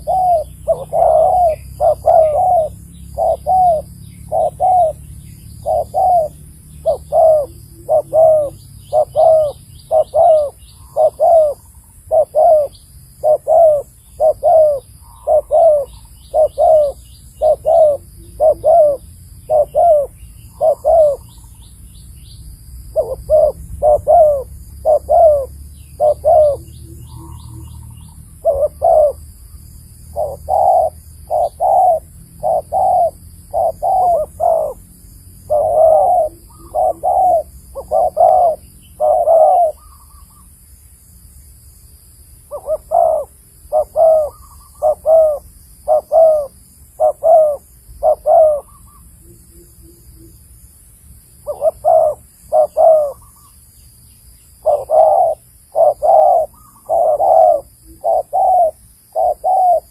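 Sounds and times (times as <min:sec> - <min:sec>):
dove cooing: 0:00.0 - 0:21.7, 0:22.8 - 0:40.6, 0:42.4 - 0:50.4, 0:51.4 - 0:53.6, 0:54.6 - 0:59.9
small birds chirping: 0:00.0 - 0:59.9.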